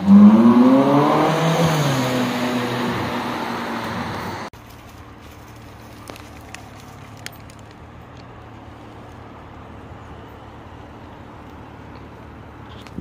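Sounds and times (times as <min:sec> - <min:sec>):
car engine hum and road noise: 0:00.0 - 0:13.0.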